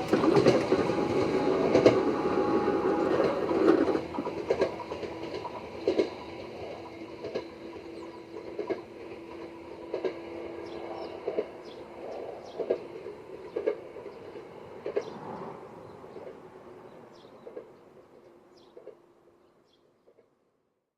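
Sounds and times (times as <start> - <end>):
train wheels clacking over rail joints: 0.0 - 19.2.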